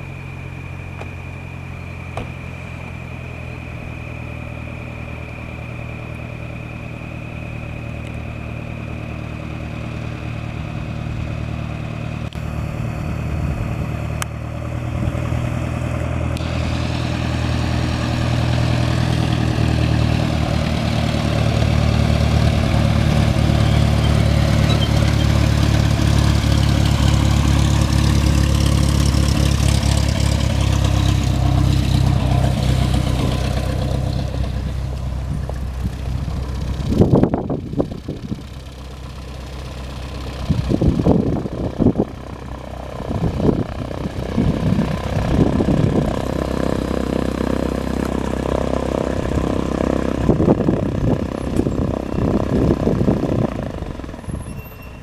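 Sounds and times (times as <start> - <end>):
propeller plane engine taxiing: 0.0 - 55.0.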